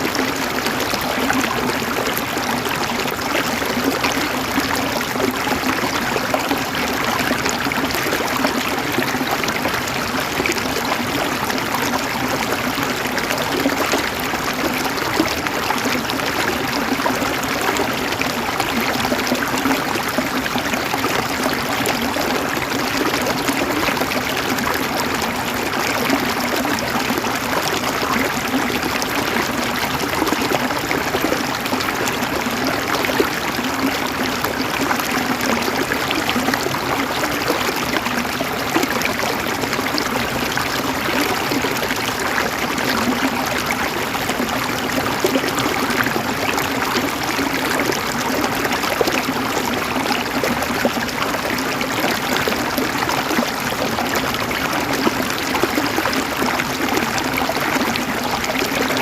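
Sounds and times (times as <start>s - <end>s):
river water flowing over rocks: 0.0s - 59.0s.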